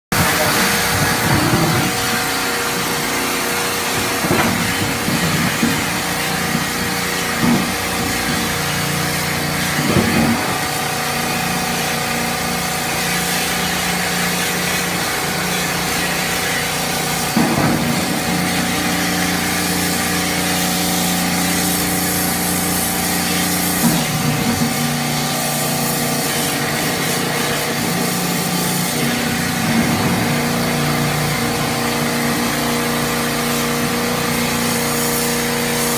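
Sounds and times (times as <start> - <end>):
machine motor humming: 0.2 - 35.9.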